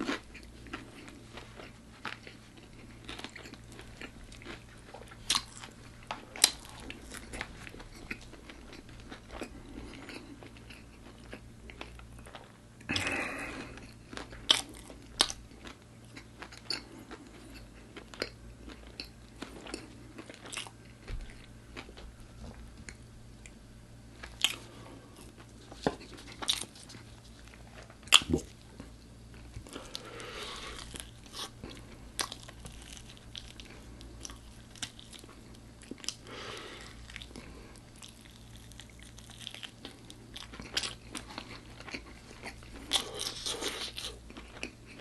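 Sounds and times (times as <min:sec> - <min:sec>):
chewing crispy fried food: 0:00.0 - 0:45.0.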